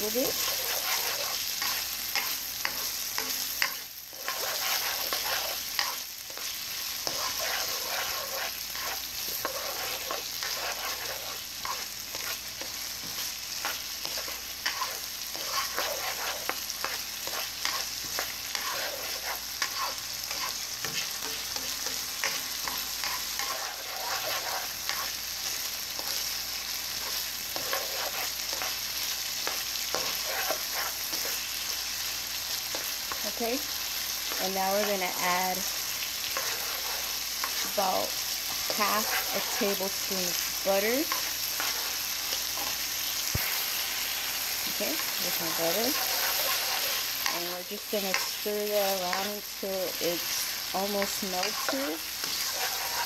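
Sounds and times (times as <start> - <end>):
spatula scraping and tapping pan: 0.0 - 26.3, 26.9 - 31.8, 32.6 - 43.7, 44.6 - 53.0
meat and vegetables sizzling in wok: 0.0 - 53.0.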